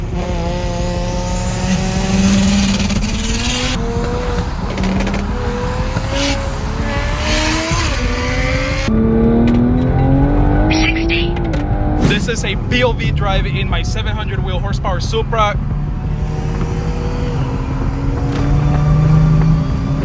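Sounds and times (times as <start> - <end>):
hissing surges on gear shifts: 0.0 - 8.9, 12.0 - 20.0
car engine accelerating: 0.0 - 20.0.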